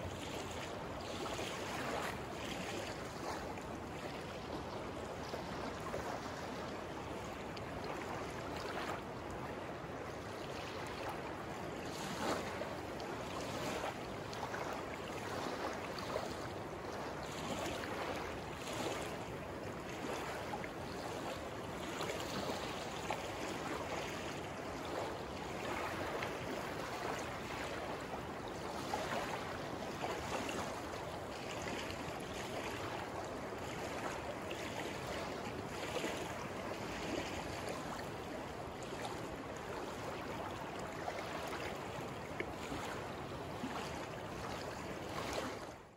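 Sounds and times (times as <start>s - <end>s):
river water rushing and lapping: 0.0s - 45.9s
small waves splashing: 0.0s - 45.9s.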